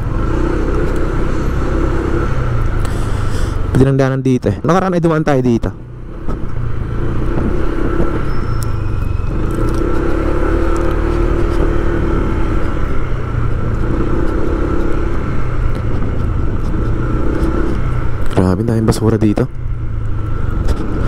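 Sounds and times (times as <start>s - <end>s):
motor vehicle engine and road rumble: 0.0s - 21.0s.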